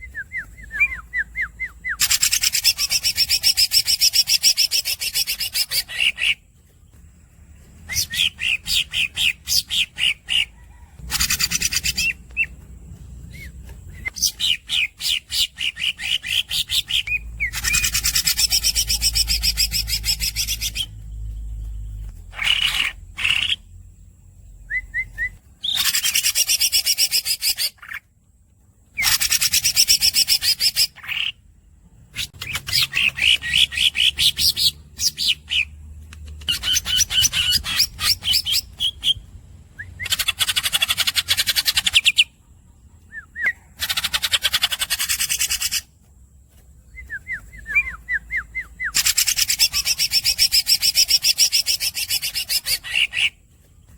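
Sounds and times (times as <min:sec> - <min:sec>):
squeaky bird chirps: 0:00.0 - 0:06.5, 0:07.8 - 0:23.7, 0:24.7 - 0:28.0, 0:28.9 - 0:31.4, 0:32.1 - 0:39.2, 0:39.8 - 0:42.4, 0:43.1 - 0:45.9, 0:46.9 - 0:53.4
bird singing rolling phrases: 0:00.0 - 0:53.9.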